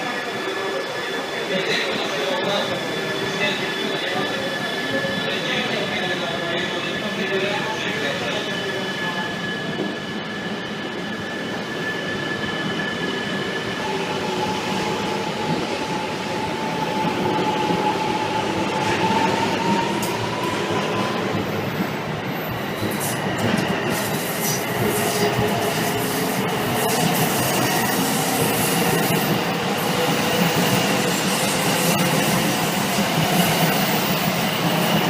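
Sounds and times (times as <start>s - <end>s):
train rolling noise: 0.0s - 35.0s.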